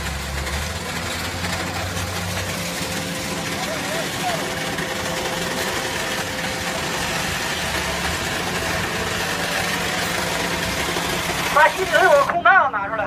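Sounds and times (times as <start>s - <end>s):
machine hum: 0.0s - 12.4s.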